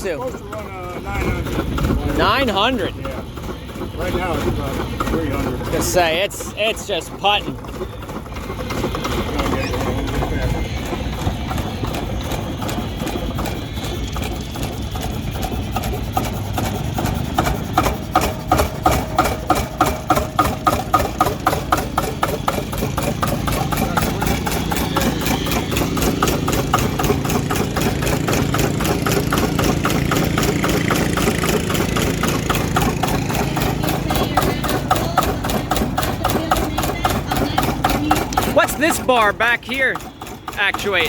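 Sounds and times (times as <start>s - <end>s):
stationary engine putting slowly: 0.0s - 41.0s.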